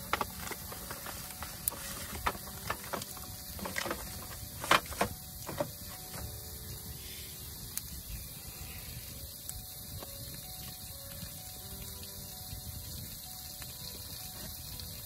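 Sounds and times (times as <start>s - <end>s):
wood fire crackling and popping: 0.0s - 8.3s, 9.0s - 15.0s.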